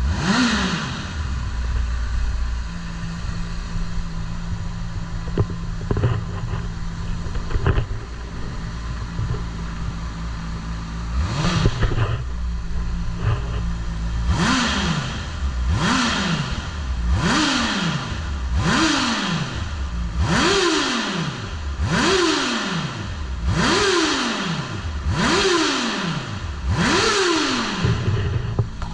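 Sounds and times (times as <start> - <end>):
motorcycle engine idling and revving: 0.0 - 28.9.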